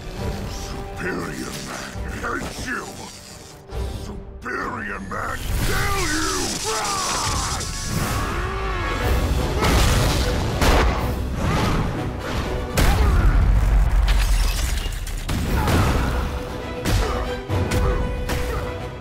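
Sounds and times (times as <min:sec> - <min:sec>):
action music: 0:00.0 - 0:19.0.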